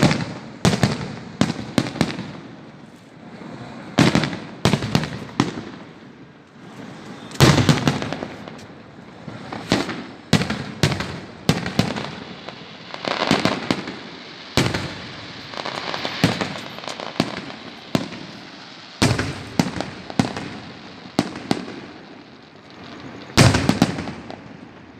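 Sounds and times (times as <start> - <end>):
fireworks bangs: 0.0 - 24.9
fireworks crackling hiss: 0.0 - 24.9.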